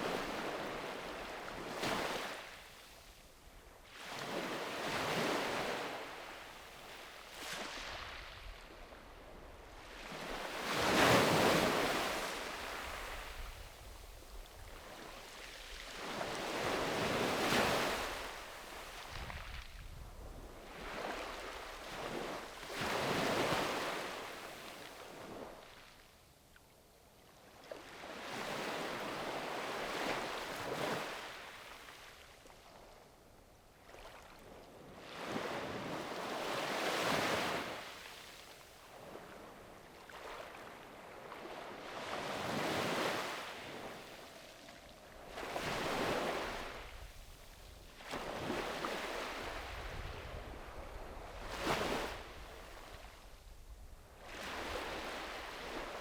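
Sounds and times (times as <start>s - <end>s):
small waves washing up beach: 0.0s - 2.8s, 3.8s - 25.9s, 27.6s - 32.7s, 33.8s - 56.0s.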